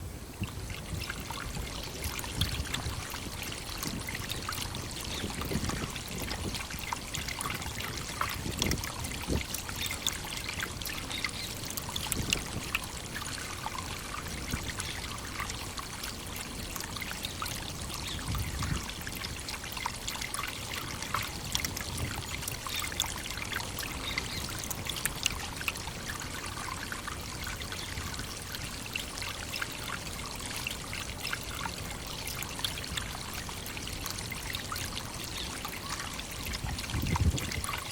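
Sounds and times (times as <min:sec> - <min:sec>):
waterfall water pouring: 0:00.4 - 0:37.9.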